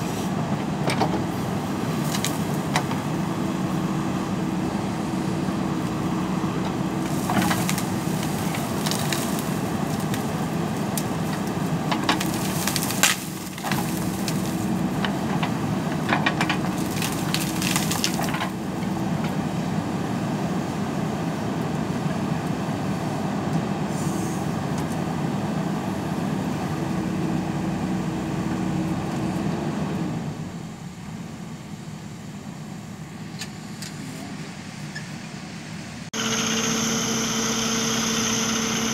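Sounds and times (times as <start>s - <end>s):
diesel engine working: 0.0s - 38.9s.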